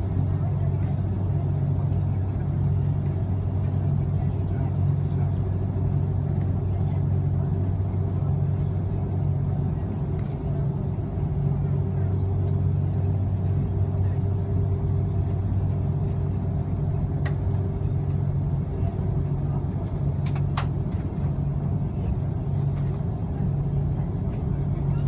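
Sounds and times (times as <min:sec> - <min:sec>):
aircraft cabin engine drone: 0:00.0 - 0:25.0.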